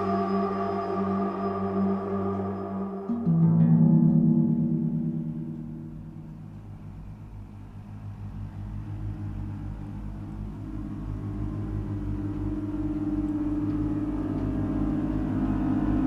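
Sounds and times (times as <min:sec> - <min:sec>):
deep ringing gong-like drone: 0:00.0 - 0:16.0.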